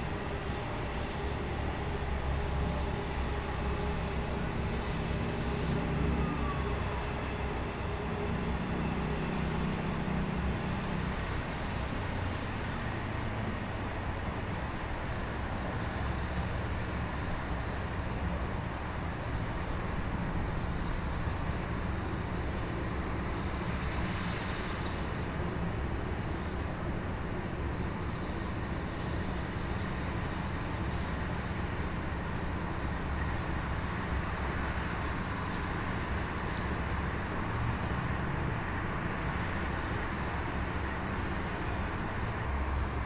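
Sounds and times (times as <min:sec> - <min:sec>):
distant city traffic rumble: 0:00.0 - 0:43.0.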